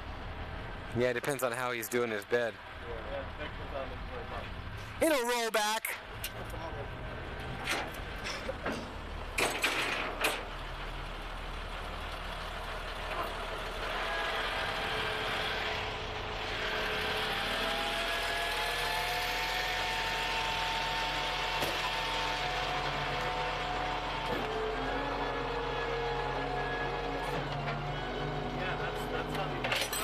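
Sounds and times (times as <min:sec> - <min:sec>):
tow truck engine running: 0:00.0 - 0:30.0.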